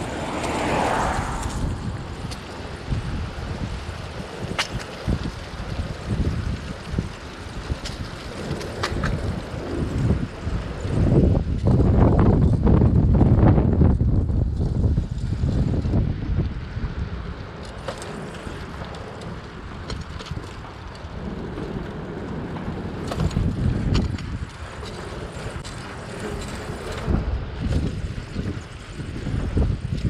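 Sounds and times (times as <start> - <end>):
bicycle tyres on pavement: 0.0 - 30.0
wind buffeting microphone: 0.0 - 30.0.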